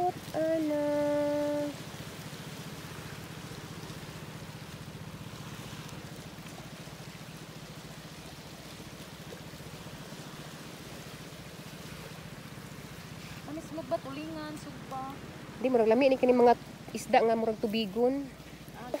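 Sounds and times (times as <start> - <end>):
boat engine chugging: 0.0 - 19.0
waves on pebbly shore: 0.0 - 19.0.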